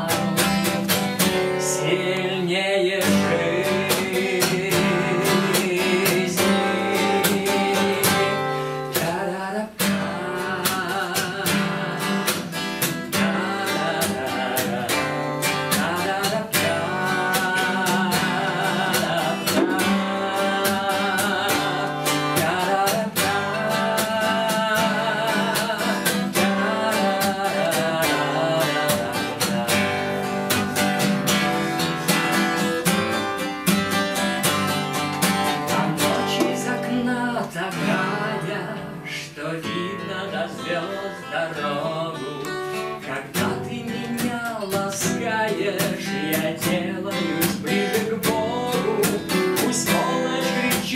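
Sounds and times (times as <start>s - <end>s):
acoustic guitar strumming: 0.0s - 50.9s
person singing wordlessly: 0.0s - 50.9s.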